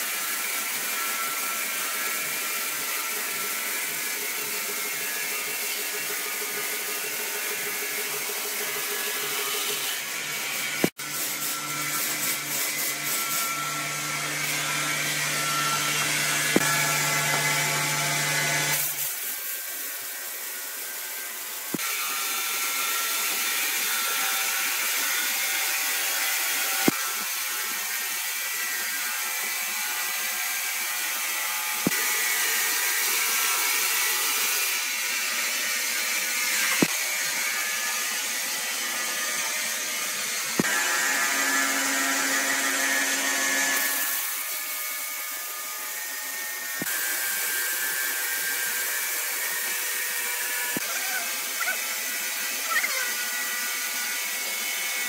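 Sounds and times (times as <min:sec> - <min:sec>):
band saw cutting through log: 0:00.0 - 0:55.0.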